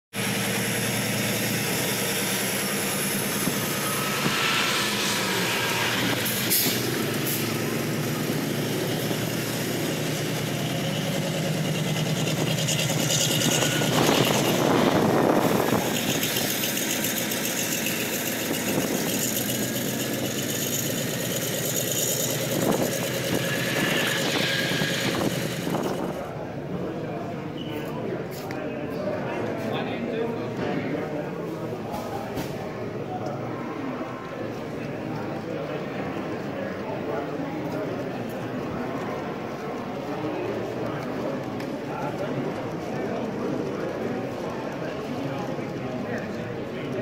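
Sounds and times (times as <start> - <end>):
diesel locomotive engine drone: 0.1 - 27.4, 31.1 - 47.0.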